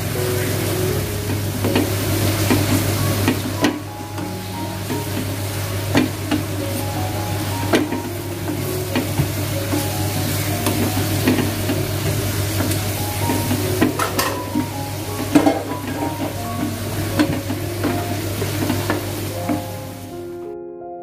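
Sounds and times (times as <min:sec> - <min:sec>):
paste sizzling in hot oil: 0:00.4 - 0:20.1.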